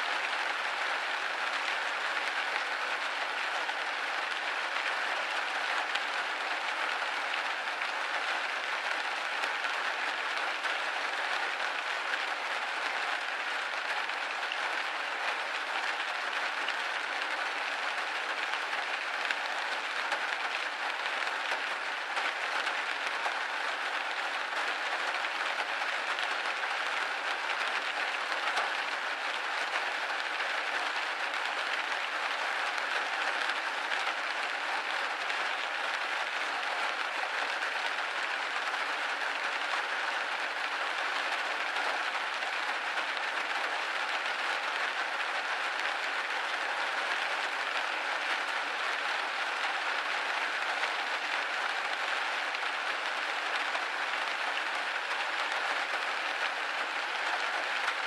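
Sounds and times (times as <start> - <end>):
rain pattering on window: 0.0 - 58.0.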